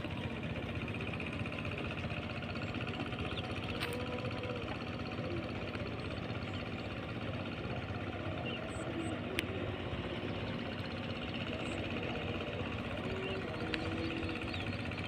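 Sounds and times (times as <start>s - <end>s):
locomotive engine rumbling: 0.0s - 15.0s.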